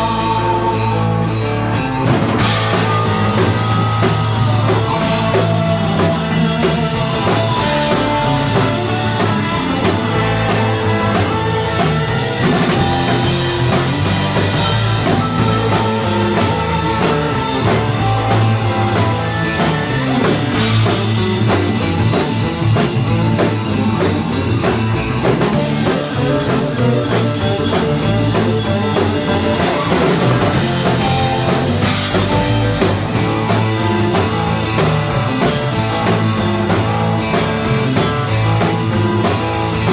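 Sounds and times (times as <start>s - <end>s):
surf rock band playing: 0.0s - 39.9s.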